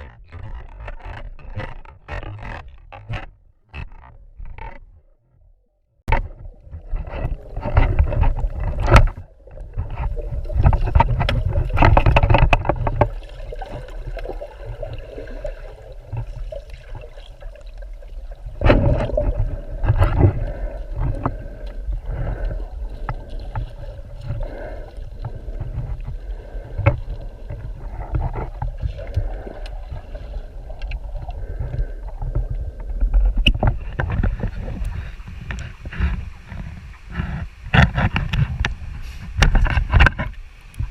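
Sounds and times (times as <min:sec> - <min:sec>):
muffled underwater sloshing: 0:06.0 - 0:40.9.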